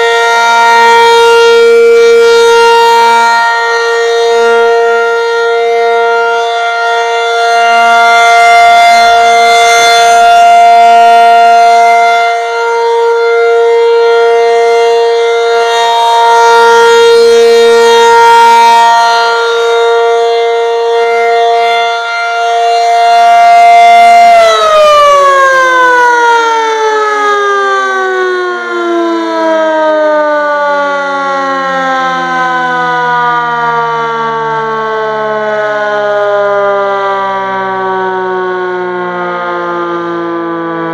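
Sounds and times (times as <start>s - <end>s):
siren winding down: 0.0s - 40.9s
warning siren steady tone: 0.0s - 40.9s.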